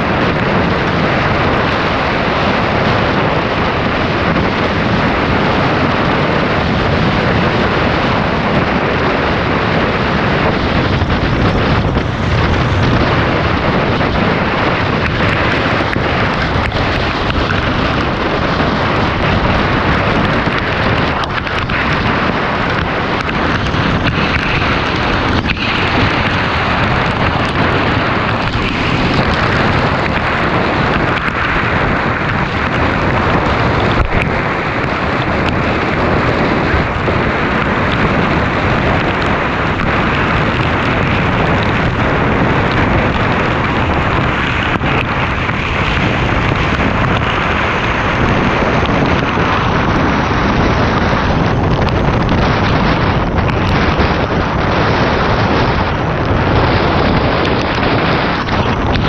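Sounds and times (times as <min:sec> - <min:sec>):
dirt bike engine running: 0:00.0 - 0:59.0
wind noise on microphone: 0:00.0 - 0:59.0.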